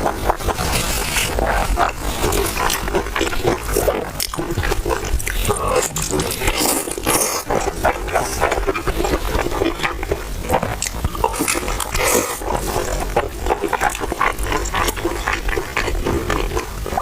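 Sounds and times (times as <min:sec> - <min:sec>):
crunching and chewing crispy pie: 0:00.0 - 0:17.0
wet mouth noises: 0:00.0 - 0:17.0.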